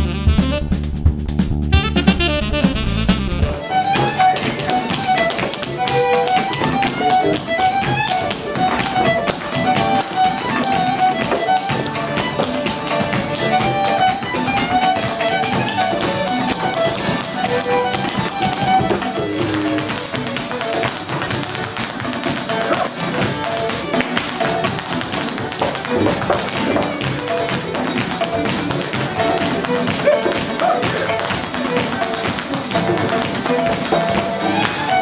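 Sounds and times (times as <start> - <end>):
guitar accompaniment: 0.0 - 35.0
fiddle playing a folk tune: 1.8 - 35.0
dancers' shoes tapping on stage: 3.5 - 35.0.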